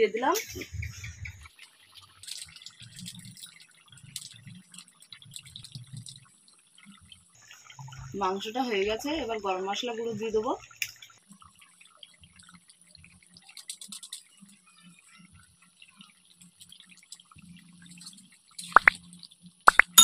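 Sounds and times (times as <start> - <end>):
curry simmering with bubbling pops: 0.3 - 20.0.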